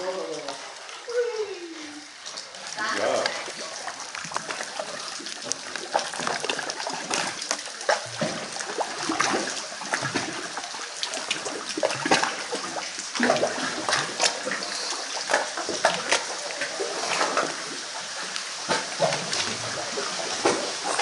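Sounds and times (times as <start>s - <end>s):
sharp water splashes: 2.1s - 21.0s
water slapping against rock walls: 2.1s - 21.0s.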